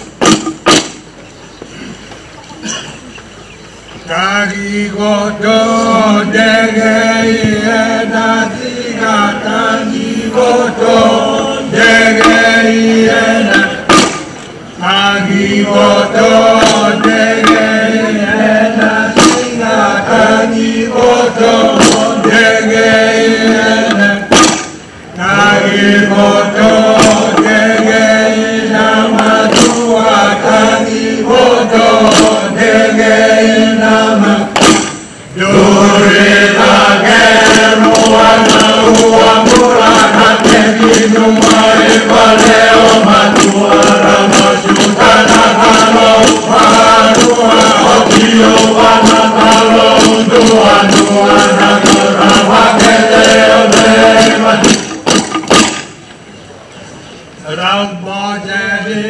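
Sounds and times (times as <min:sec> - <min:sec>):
men chanting in unison: 0:04.0 - 0:55.0, 0:57.4 - 0:59.0.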